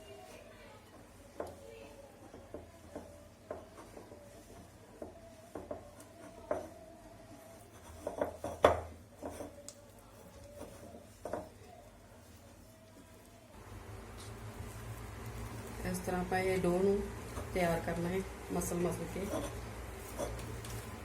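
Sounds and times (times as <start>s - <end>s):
dough mixing in a bowl: 0.0s - 21.0s.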